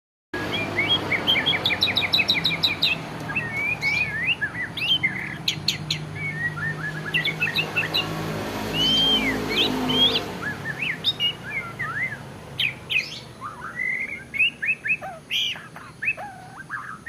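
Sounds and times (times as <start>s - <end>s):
songbird singing: 0.4s - 17.0s.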